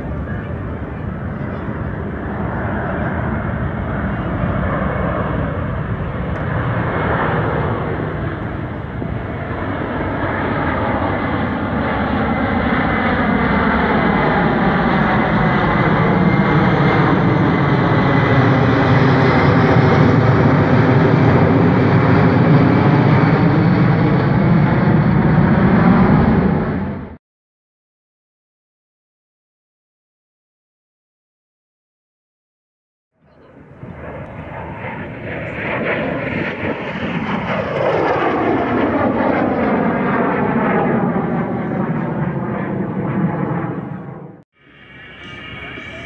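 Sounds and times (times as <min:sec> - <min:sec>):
jet aircraft flying overhead: 0:00.0 - 0:27.2, 0:33.2 - 0:46.0.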